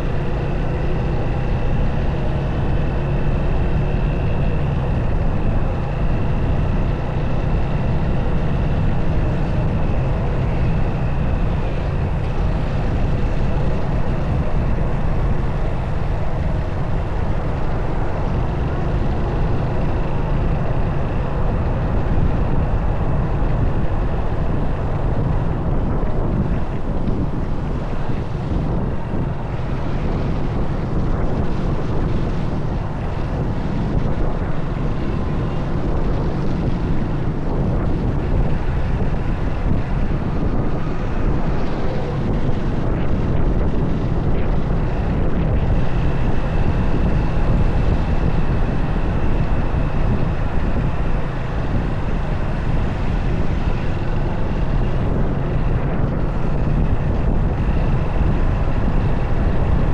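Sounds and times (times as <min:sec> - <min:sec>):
motorcycle engine rumbling: 0:00.0 - 0:59.9
wind rushing over microphone: 0:00.0 - 0:59.9.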